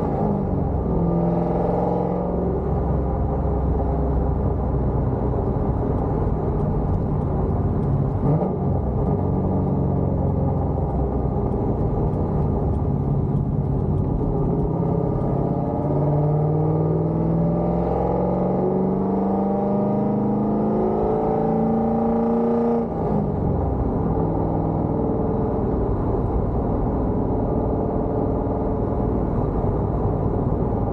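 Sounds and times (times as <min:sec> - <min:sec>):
car engine accelerating: 0:00.0 - 0:30.9.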